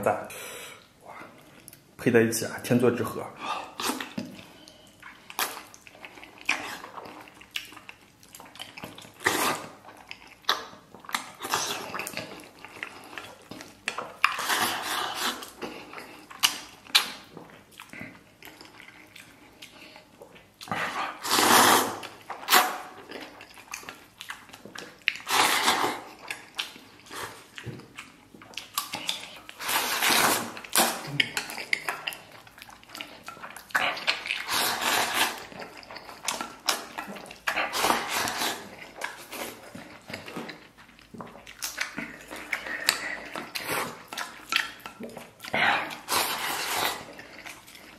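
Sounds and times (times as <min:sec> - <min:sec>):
chewing and slurping: 0:03.4 - 0:47.9.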